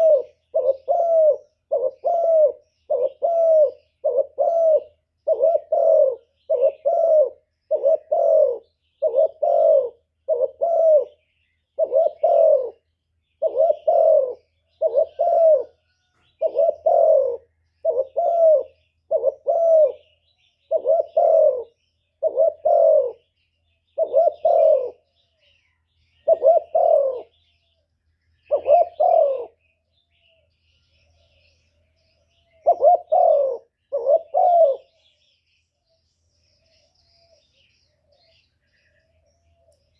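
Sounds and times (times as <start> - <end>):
dove cooing: 0.0 - 27.8, 28.4 - 39.9.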